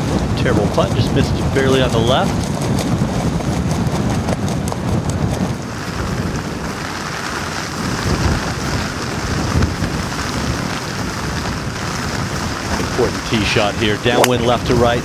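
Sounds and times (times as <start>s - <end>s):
rain hissing: 0.0s - 2.4s, 4.1s - 15.0s
gusting wind rumble: 0.0s - 15.0s.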